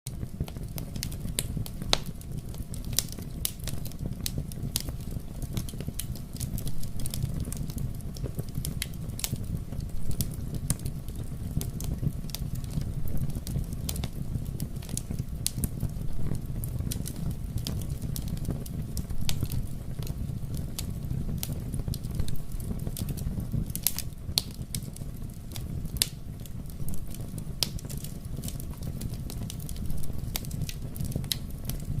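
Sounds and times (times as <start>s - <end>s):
campfire crackling and popping: 0.1s - 32.0s.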